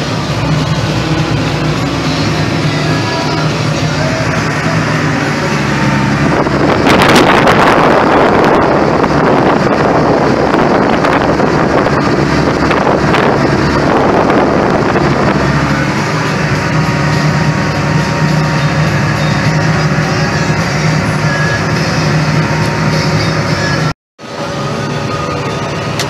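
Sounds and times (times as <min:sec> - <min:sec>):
rough rush of noise: 0:00.0 - 0:26.0
tractor diesel engine running: 0:00.0 - 0:26.0.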